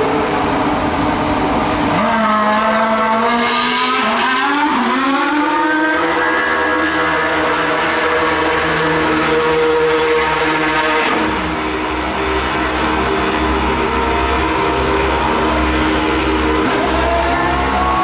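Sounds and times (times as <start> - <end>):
racing car engine at high revs: 0.0 - 18.0
racing car passing by: 0.0 - 18.0.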